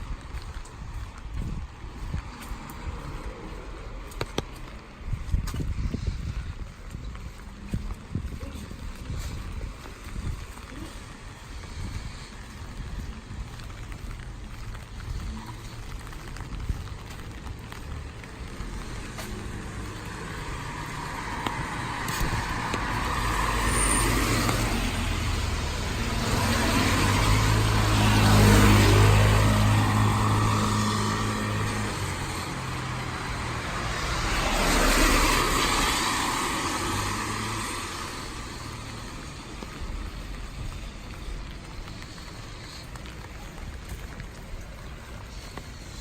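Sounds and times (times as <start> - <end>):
tyres hissing on wet road: 0.0 - 46.0
vehicle engine hum: 0.0 - 46.0.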